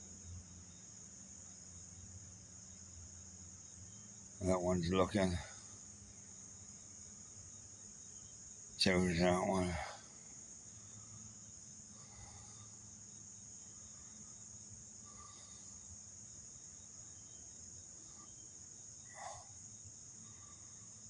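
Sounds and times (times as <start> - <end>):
high-pitched insect chorus trilling: 0.0 - 21.0.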